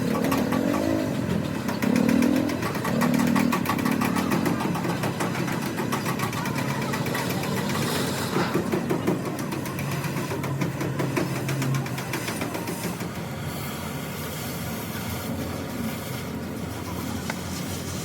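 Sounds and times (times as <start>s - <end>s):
engine running with rapid pulse: 0.0s - 18.0s.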